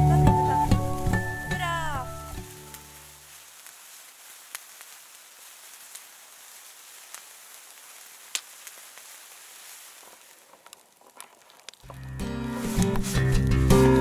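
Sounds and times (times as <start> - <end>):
sparkler crackles: 0.0 - 14.0
sparklers fizzing hiss: 0.0 - 14.0.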